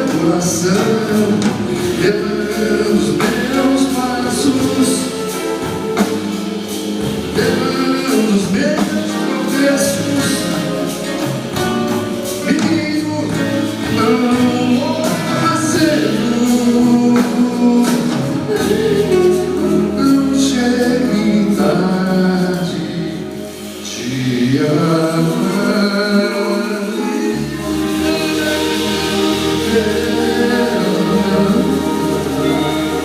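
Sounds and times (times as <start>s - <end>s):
live band music: 0.0s - 33.0s
wordless singing: 0.0s - 33.0s.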